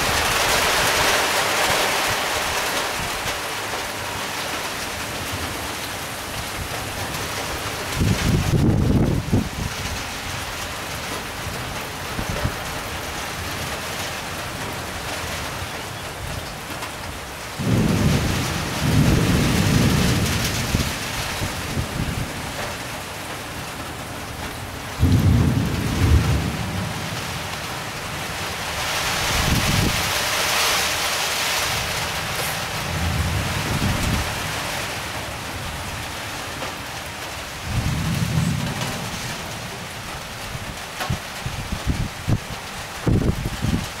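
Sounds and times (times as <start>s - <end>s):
thunder rumbling: 0.0s - 13.6s, 17.5s - 36.7s, 37.4s - 44.0s
steady rain hissing: 0.0s - 44.0s.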